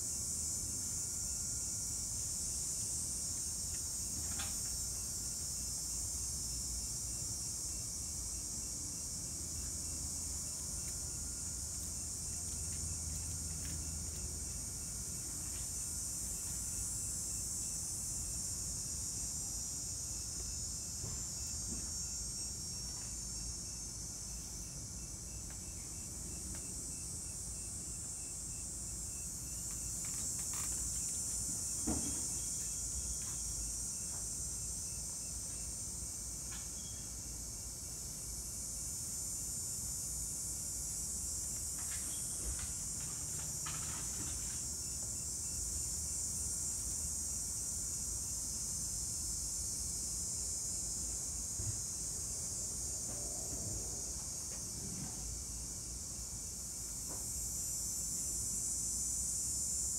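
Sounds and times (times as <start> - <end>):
faint insect chirp: 0.0 - 59.9
insects hissing: 0.0 - 59.9.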